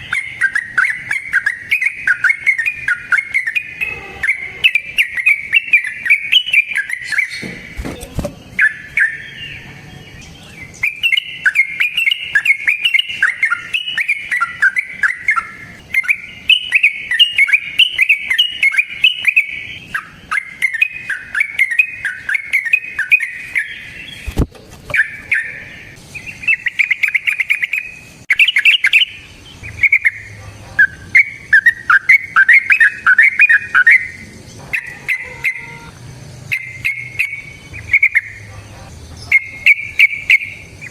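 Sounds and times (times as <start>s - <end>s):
bulbul singing bubbling chirps: 0.0s - 7.8s, 8.4s - 40.9s.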